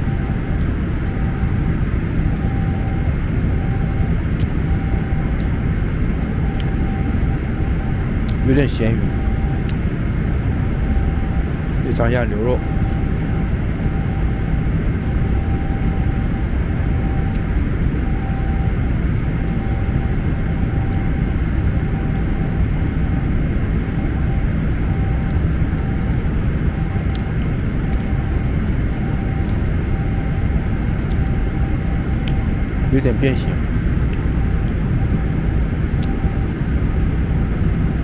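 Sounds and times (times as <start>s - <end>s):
airliner cabin drone: 0.0s - 38.0s
faint steady tone: 0.0s - 38.0s.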